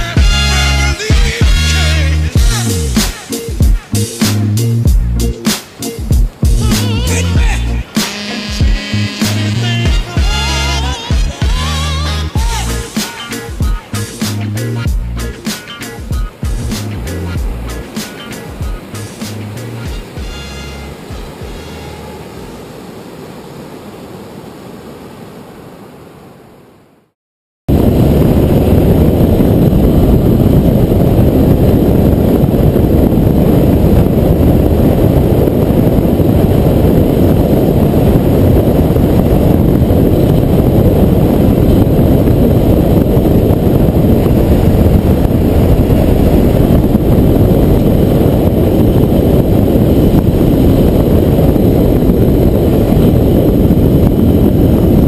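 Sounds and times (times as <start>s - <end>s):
wind rushing over microphone: 0.0s - 27.1s, 27.7s - 55.0s
motorcycle engine and tyre noise: 8.2s - 26.5s, 27.7s - 55.0s.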